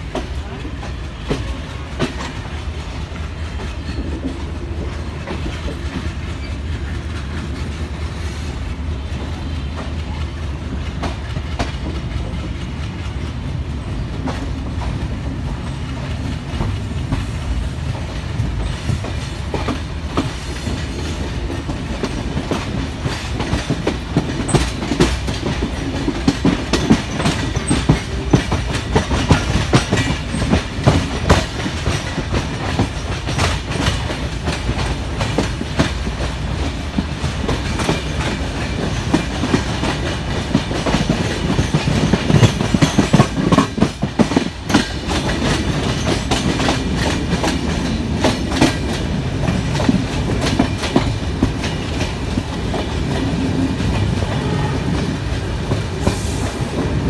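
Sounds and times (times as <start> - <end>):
train carriage rumble: 0.0 - 57.0
wheels clacking over rail joints: 0.0 - 57.0.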